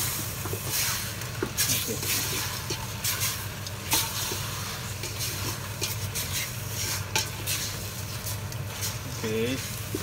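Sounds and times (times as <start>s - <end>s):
meat sizzling in hot oil: 0.0s - 10.0s
wooden spatula scraping pot: 0.7s - 10.0s.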